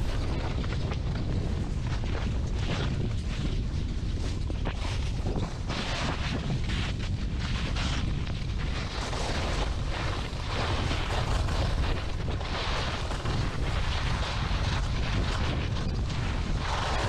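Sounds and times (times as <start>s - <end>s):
skis carving through snow: 0.0s - 17.0s
wind buffeting microphone: 0.0s - 17.0s.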